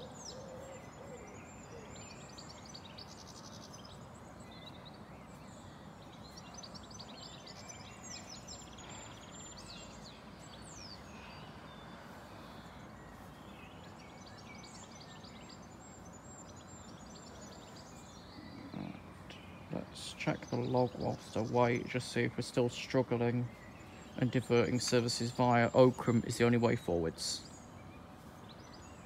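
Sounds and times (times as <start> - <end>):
faint outdoor rumble: 0.0 - 29.0
small birds chirping and trilling: 0.0 - 29.0.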